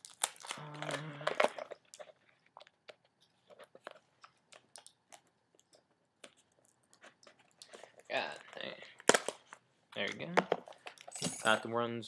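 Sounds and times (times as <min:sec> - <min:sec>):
small clicks and crackles of packaging: 0:00.0 - 0:11.2.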